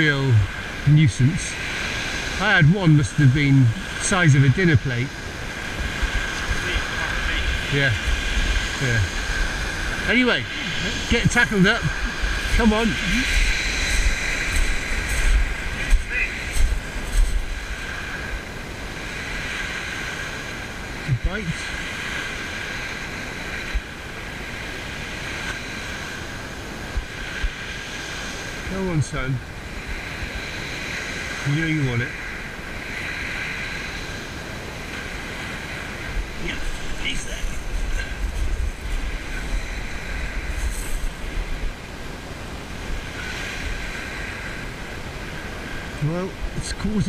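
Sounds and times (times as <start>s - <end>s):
waves washing over shingle: 0.0s - 47.0s
wind buffeting microphone: 0.0s - 47.0s.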